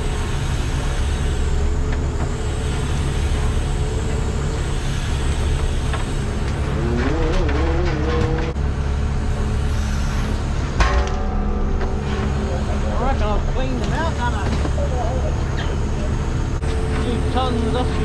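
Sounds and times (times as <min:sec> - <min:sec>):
diesel boat engine drone: 0:00.0 - 0:18.0.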